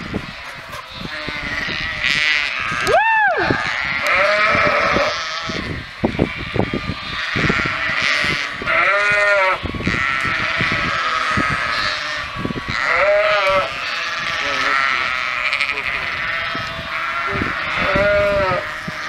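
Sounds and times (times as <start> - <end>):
sheep bleating in chorus: 0.0 - 19.0.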